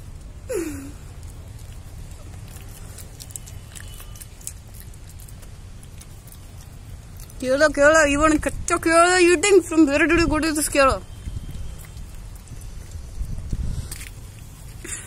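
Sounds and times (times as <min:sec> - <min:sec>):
monkey chewing: 0:00.0 - 0:08.6, 0:09.3 - 0:15.0.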